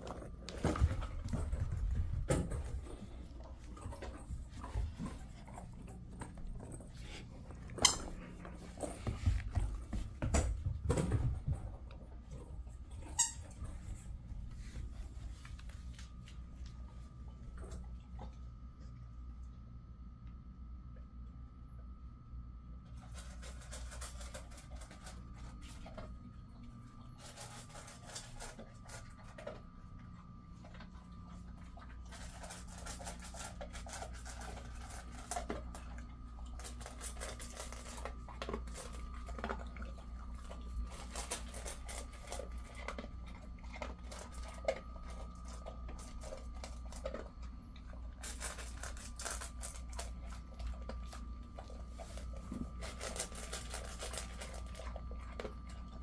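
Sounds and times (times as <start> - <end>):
dog crunching and chewing: 0.0 - 19.0, 22.8 - 56.0.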